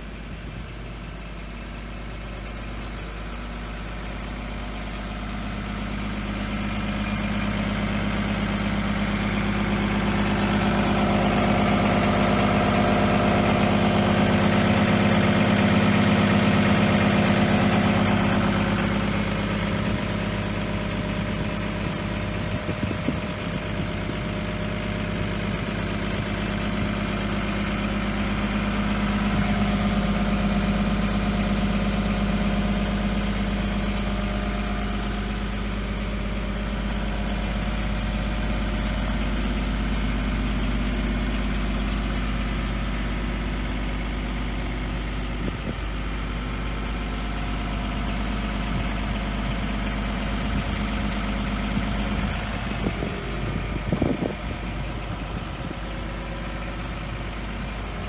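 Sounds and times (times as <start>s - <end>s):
excavator diesel engine idling: 0.0s - 58.0s.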